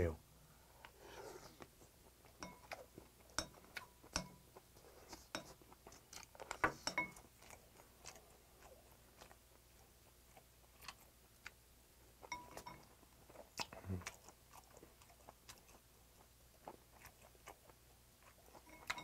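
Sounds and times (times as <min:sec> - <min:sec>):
soft chewing: 0:00.5 - 0:19.0.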